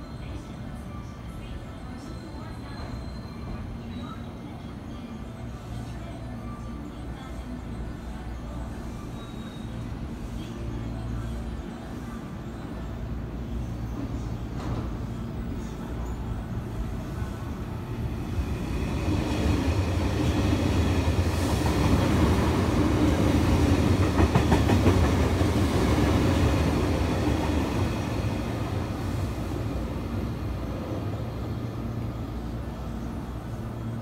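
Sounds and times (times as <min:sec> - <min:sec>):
electric train passing at speed: 0:00.0 - 0:34.0.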